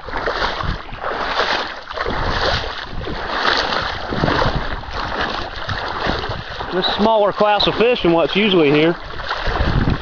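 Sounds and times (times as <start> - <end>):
water sloshing around boat: 0.0 - 10.0
wind gusting over microphone: 0.0 - 10.0.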